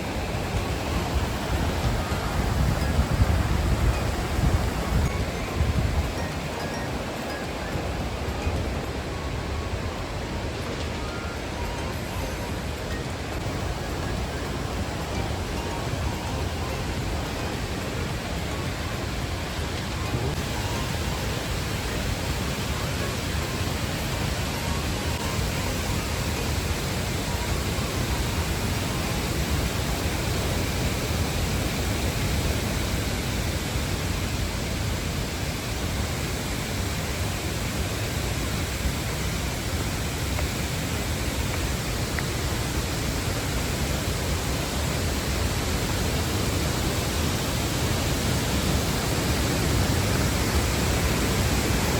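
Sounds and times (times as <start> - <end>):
waterfall roaring: 0.0 - 51.9.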